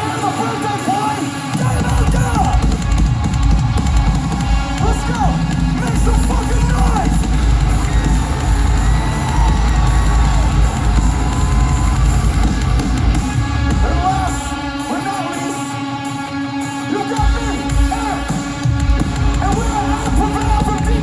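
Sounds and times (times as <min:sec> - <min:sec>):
heavy rock band playing live: 0:00.0 - 0:21.0.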